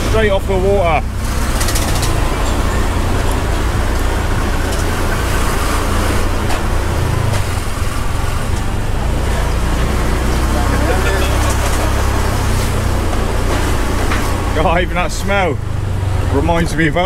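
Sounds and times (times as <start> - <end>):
motorcycle engine rumble: 0.0 - 17.0.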